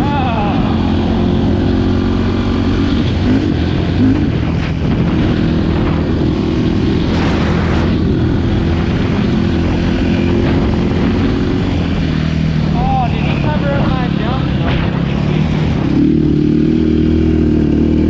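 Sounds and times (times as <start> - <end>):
quad engine running: 0.0 - 18.0
rush of noise: 0.0 - 18.0.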